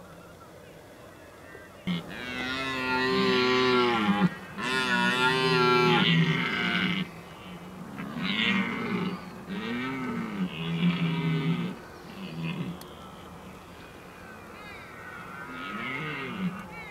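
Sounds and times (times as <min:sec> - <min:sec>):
deer stag roaring: 0:01.9 - 0:13.2, 0:14.3 - 0:16.9.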